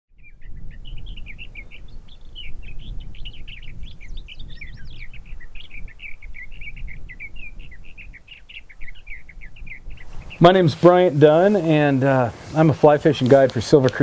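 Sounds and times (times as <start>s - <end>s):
songbirds chirping: 0.1s - 14.0s.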